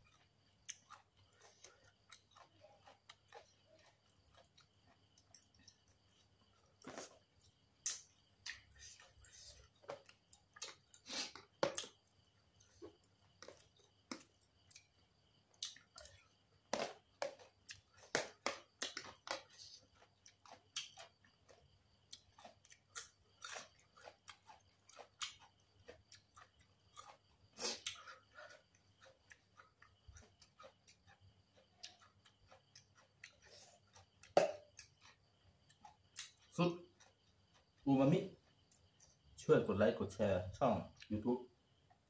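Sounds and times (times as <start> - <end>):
person chewing food: 0.0 - 39.4.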